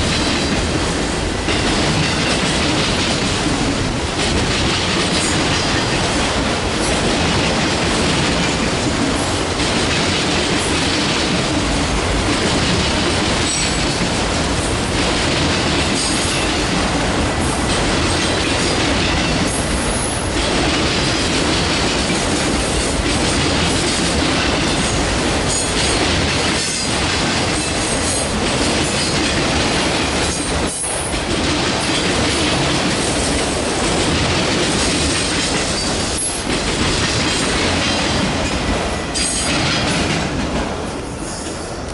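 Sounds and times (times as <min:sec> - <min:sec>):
clickety-clack over rail joints: 0:00.0 - 0:41.9
train wheels rumbling: 0:00.0 - 0:41.9.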